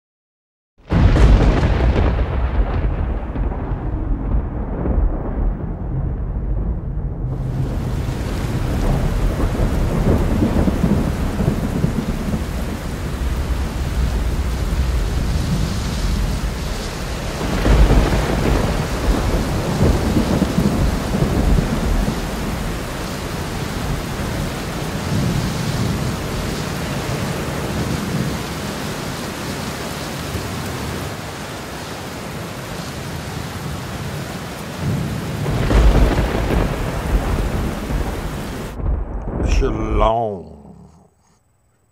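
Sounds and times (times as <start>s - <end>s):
thunder rumbling: 0.8s - 28.4s, 34.8s - 41.1s
steady rain: 0.8s - 40.9s.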